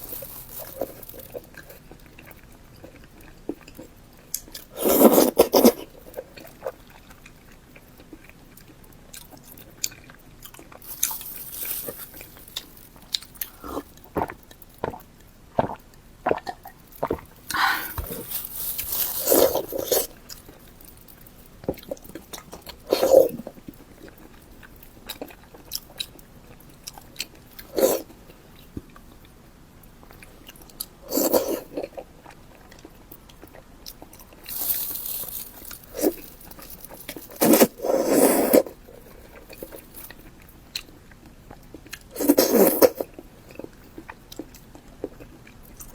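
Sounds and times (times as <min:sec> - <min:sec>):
person chewing crunchy food: 0:00.0 - 0:29.1, 0:30.0 - 0:45.9.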